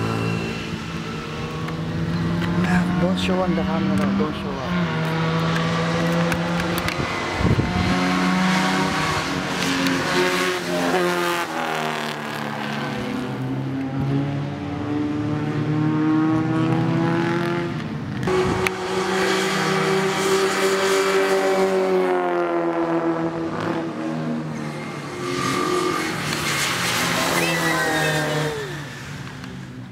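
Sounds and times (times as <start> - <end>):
car engine at racing speed: 0.0 - 29.9.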